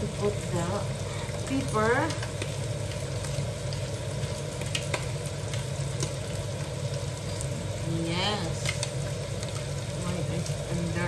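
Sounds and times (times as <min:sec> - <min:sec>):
low steady hum: 0:00.0 - 0:11.0
meat sizzling in a frying pan: 0:00.0 - 0:11.0.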